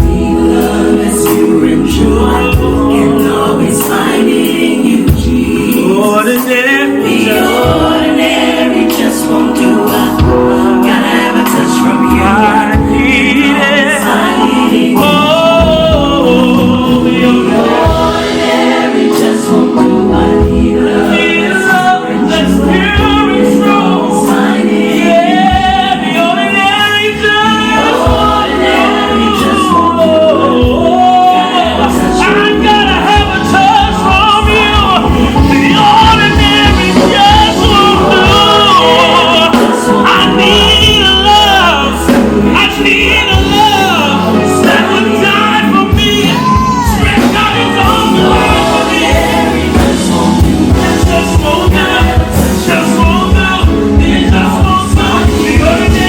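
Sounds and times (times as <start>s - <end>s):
gospel vocal group singing: 0.0s - 56.0s
sustained instrumental chords: 0.0s - 56.0s.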